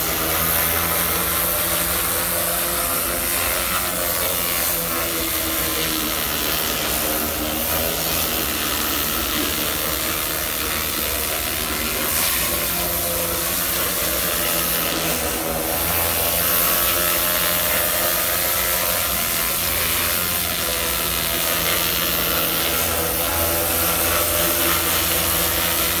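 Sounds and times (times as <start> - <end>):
pressure washer spray hiss: 0.0 - 26.0.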